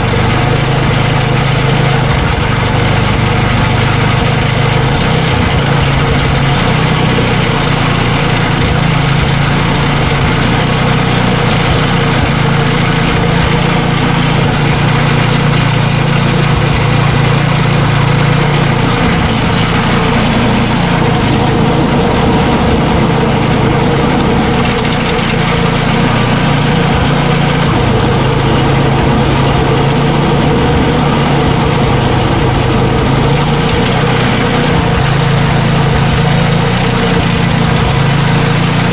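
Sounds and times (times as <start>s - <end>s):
snow blower engine running: 0.0s - 38.9s.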